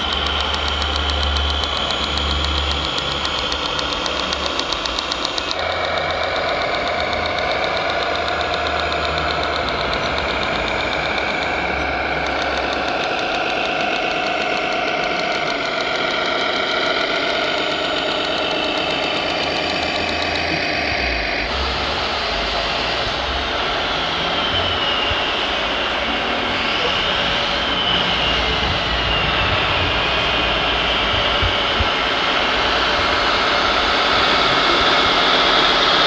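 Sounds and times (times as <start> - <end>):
toy truck motor whine: 0.0 - 36.0.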